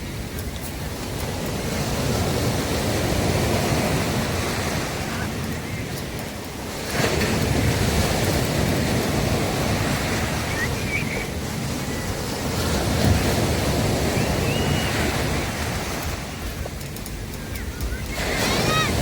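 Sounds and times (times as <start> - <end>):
sea waves breaking: 0.0 - 19.0.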